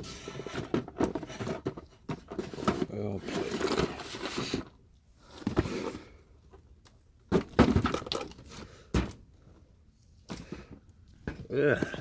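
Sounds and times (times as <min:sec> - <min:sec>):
items knocking and scraping: 0:00.0 - 0:06.6, 0:07.3 - 0:09.3, 0:10.3 - 0:12.0.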